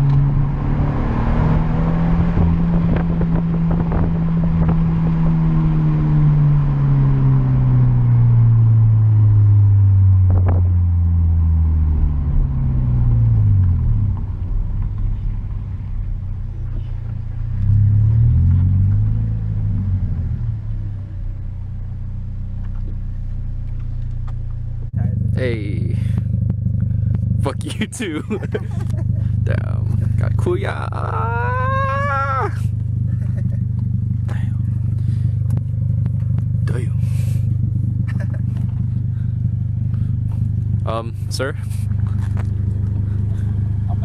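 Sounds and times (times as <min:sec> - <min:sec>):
car engine through exhaust: 0:00.0 - 0:44.0.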